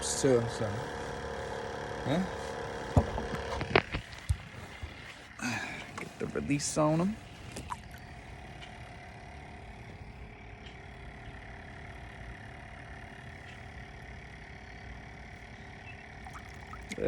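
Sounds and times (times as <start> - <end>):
faint motor hum: 0.0 - 17.0.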